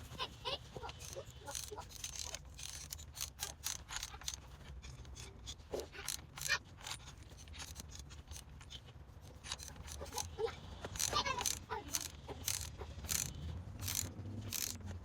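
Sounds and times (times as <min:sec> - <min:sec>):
hand tools clicking and scraping: 0:00.0 - 0:15.0.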